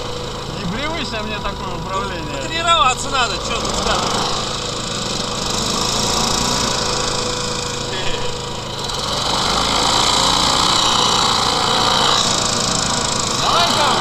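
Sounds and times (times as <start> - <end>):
hovercraft engine droning: 0.0 - 14.0.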